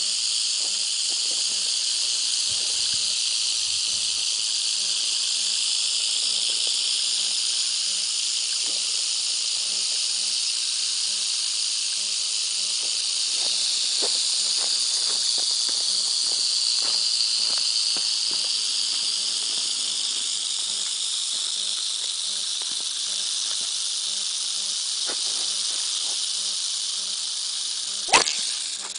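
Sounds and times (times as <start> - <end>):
rattlesnake rattle buzzing: 0.0 - 28.9.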